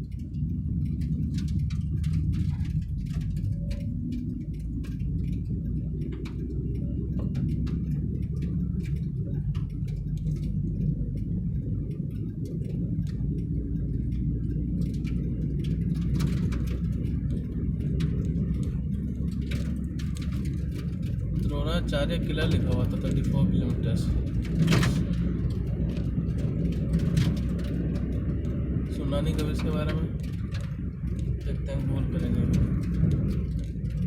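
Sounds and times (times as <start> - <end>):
car road and engine rumble: 0.0 - 34.0
light clicks and rattles: 0.0 - 34.0.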